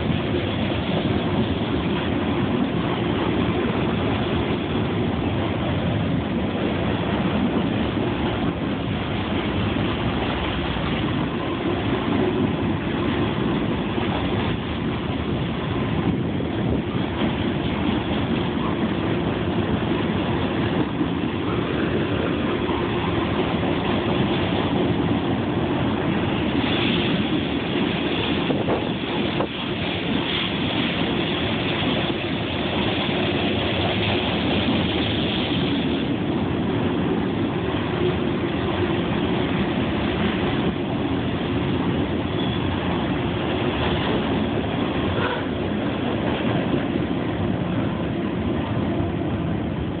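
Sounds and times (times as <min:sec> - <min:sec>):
freight train wheels rumbling on rail: 0:00.0 - 0:50.0.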